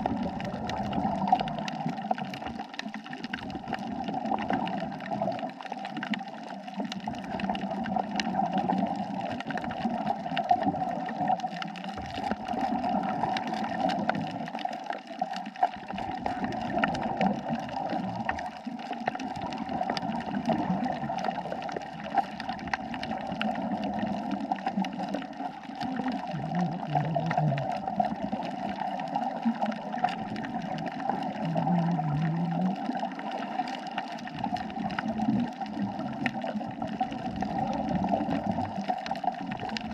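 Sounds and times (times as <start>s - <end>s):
faint crackling clicks: 0.0s - 39.9s
underwater watery hum: 0.0s - 39.9s.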